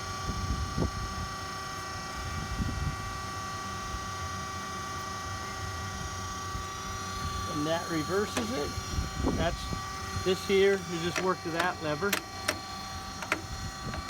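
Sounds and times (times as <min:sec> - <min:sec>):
surface grinder humming and whining: 0:00.0 - 0:14.0.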